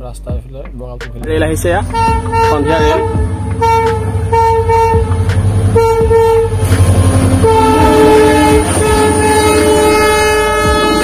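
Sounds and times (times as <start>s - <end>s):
locomotive horn blasts: 1.8s - 11.0s.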